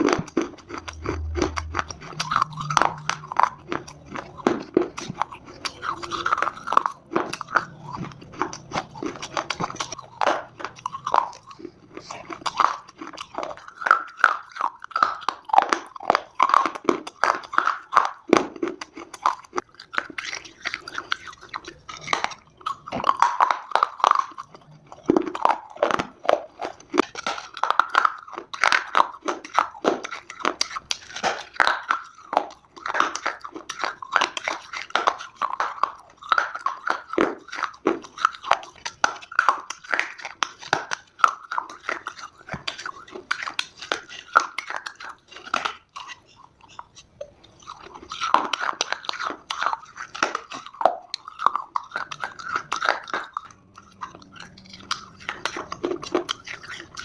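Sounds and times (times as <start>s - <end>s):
dry clay being chewed: 0.0s - 57.0s.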